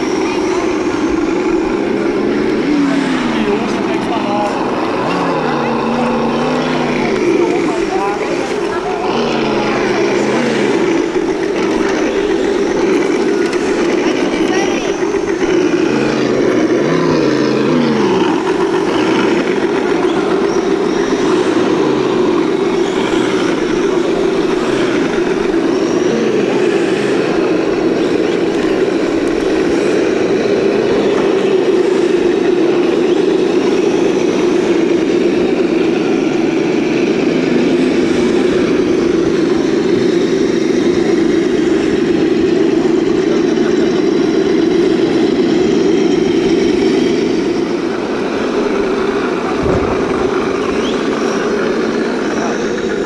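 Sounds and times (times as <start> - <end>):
electric motor and gearbox whining: 0.0 - 53.0.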